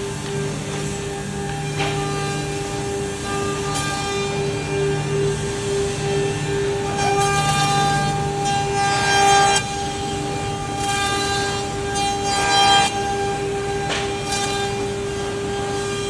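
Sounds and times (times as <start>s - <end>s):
cnc router spindles whining: 0.0s - 16.0s.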